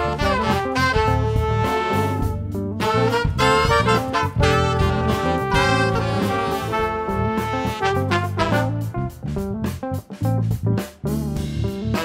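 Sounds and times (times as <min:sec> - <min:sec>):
jazz horn section: 0:00.0 - 0:10.4, 0:11.1 - 0:12.0
bass: 0:00.0 - 0:12.0
drums: 0:00.0 - 0:12.0.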